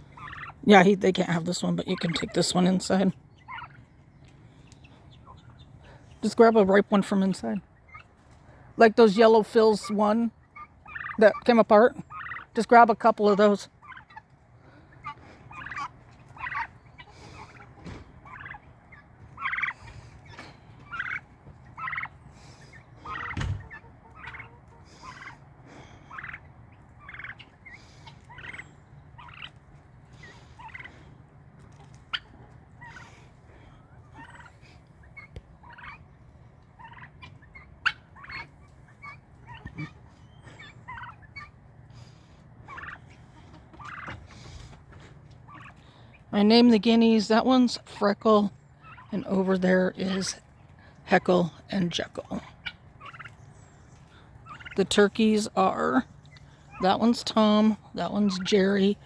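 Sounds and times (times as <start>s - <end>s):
turkeys and guinea fowl calling: 0.0s - 59.0s.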